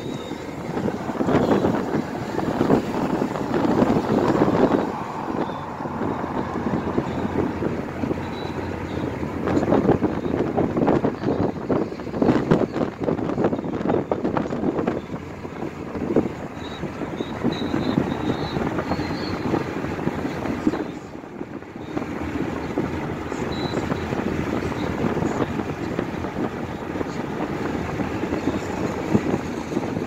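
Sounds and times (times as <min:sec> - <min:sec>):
car cabin road and wind noise: 0:00.0 - 0:30.0.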